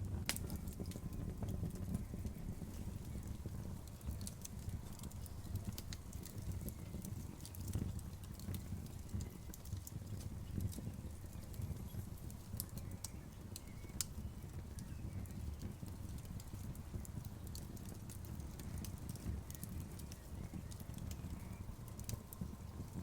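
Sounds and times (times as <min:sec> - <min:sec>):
burning wood popping and snapping: 0:00.0 - 0:23.0
low rumble of flames: 0:00.0 - 0:23.0.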